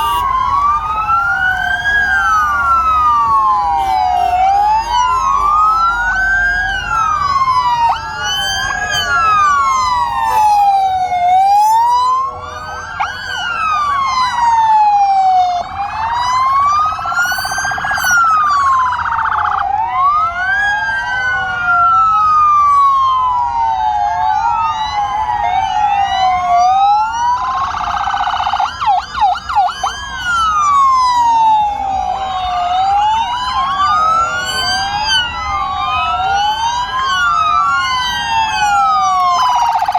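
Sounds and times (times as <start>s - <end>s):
choppy siren warble: 0.0s - 39.9s
police sirens wailing: 0.0s - 39.9s.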